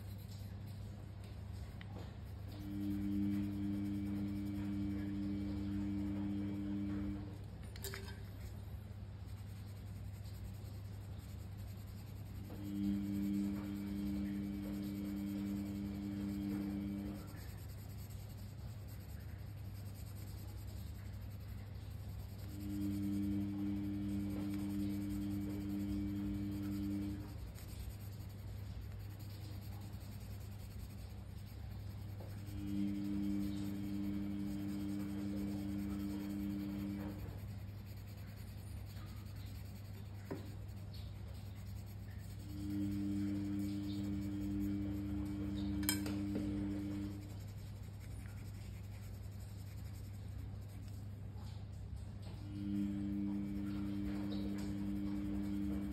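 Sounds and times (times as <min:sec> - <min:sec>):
pencil scratching on paper: 0:00.0 - 0:07.5, 0:08.2 - 0:51.2, 0:52.5 - 0:55.9
steady low hum: 0:00.0 - 0:55.9.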